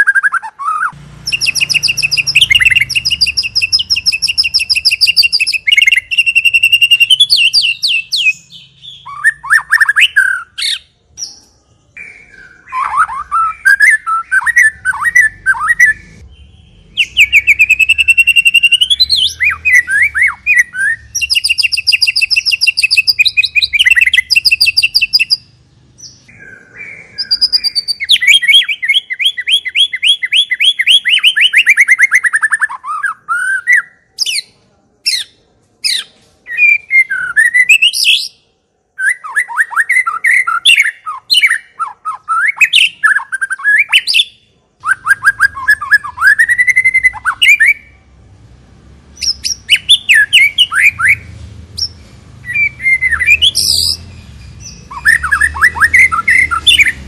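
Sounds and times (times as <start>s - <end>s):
songbird singing trills and whistles: 0.0s - 34.5s, 35.1s - 38.4s, 39.0s - 48.0s, 49.2s - 57.0s.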